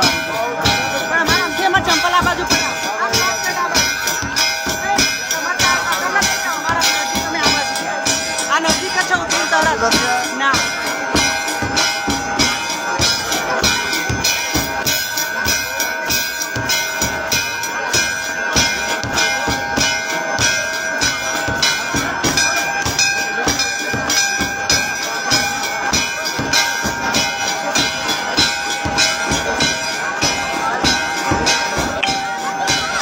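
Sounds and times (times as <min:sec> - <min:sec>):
drum and cymbal beat: 0:00.0 - 0:33.0
temple bells ringing: 0:00.0 - 0:33.0.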